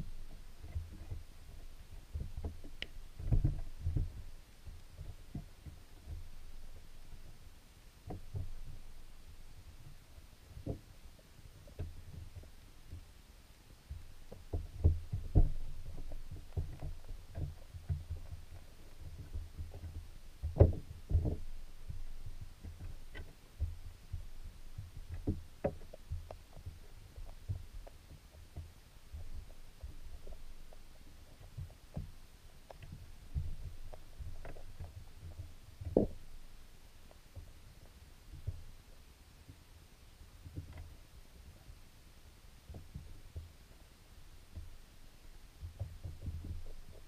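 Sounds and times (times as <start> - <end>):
underwater knocks and clicks: 0.0 - 7.4, 8.0 - 13.1, 13.9 - 38.9, 40.4 - 41.8, 42.7 - 43.8, 44.5 - 47.0.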